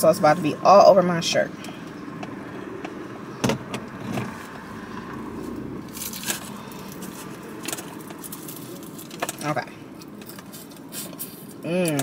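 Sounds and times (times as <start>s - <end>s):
car cabin hum: 0.0s - 9.7s.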